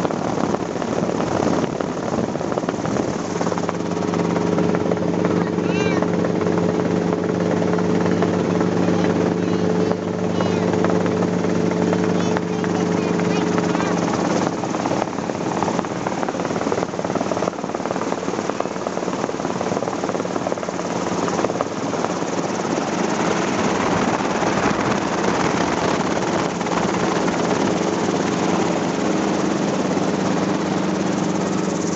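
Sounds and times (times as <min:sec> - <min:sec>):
helicopter engine and rotor drone: 0:00.0 - 0:31.9.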